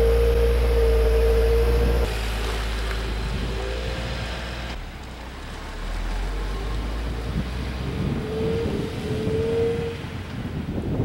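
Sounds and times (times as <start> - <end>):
car engine approaching: 0.0 - 11.0.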